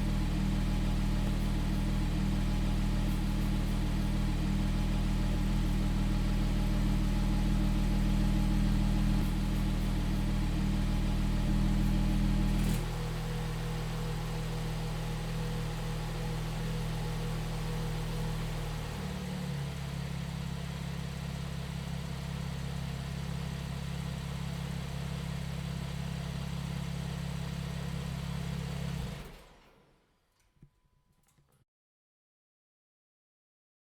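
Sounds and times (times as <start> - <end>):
engine switched off: 0.0 - 30.0.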